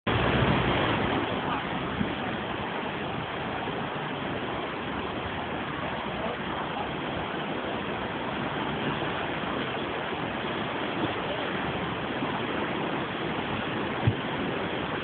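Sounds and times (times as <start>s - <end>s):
flooded river rushing: 0.1s - 15.0s.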